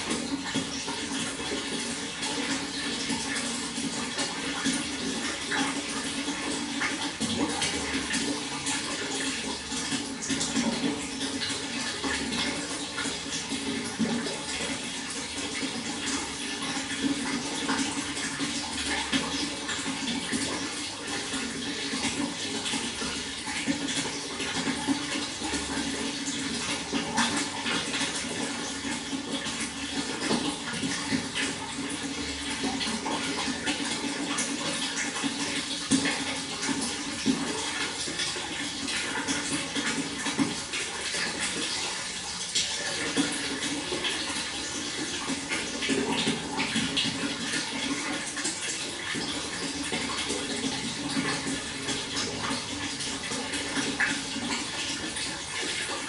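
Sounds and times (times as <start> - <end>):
water flowing and splashing: 0.0 - 56.0.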